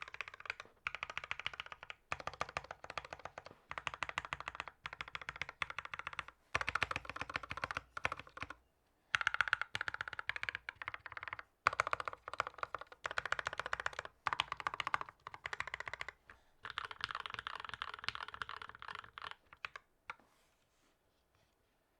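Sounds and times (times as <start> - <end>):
fast mechanical keyboard typing: 0.0 - 19.8.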